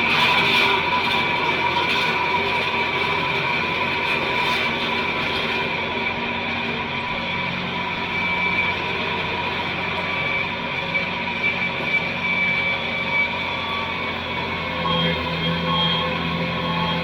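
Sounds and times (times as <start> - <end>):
tractor engine droning: 0.0 - 17.0
whining tones: 0.0 - 17.0.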